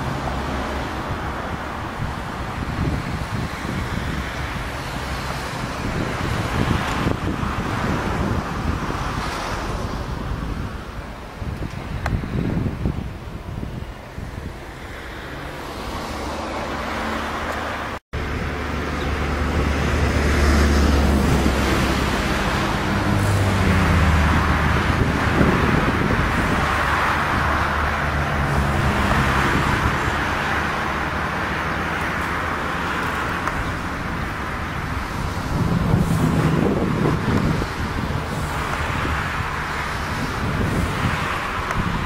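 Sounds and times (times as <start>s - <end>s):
road traffic noise: 0.0s - 42.0s
wind on microphone: 0.0s - 42.0s.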